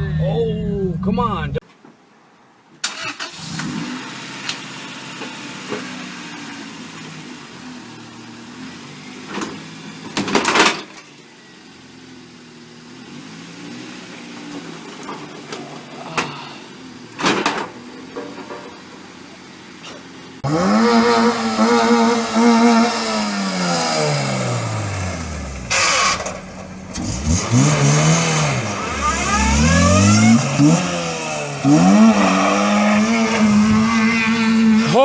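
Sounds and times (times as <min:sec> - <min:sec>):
car engine revving: 0:02.8 - 0:35.0.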